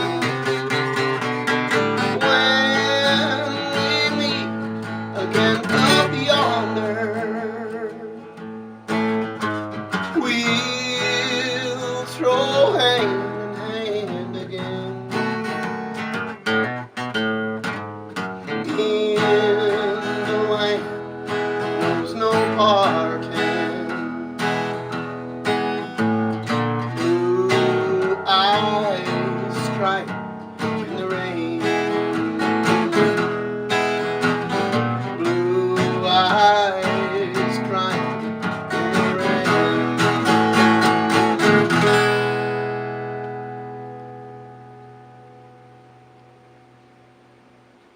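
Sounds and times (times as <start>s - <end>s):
acoustic guitar country ballad: 0.0s - 47.9s.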